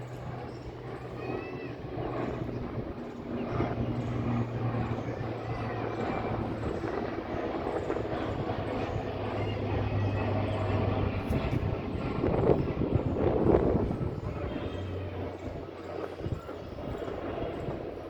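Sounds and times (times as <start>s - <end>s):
airplane engine drone: 0.0s - 18.0s.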